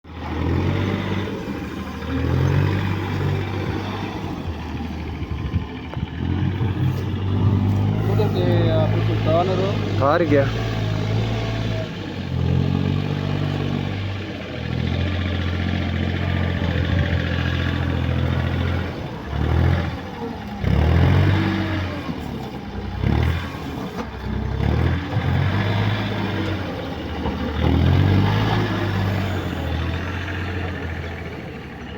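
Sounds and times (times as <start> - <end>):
tractor engine revving: 0.0 - 31.9.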